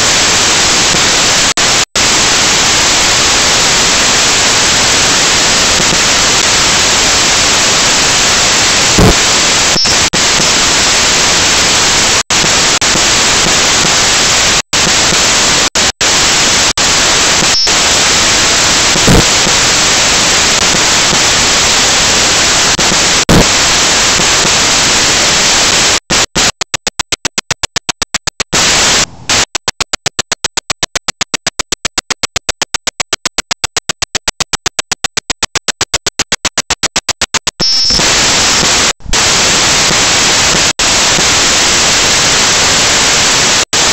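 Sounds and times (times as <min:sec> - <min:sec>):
static hiss: 0:00.0 - 0:43.9.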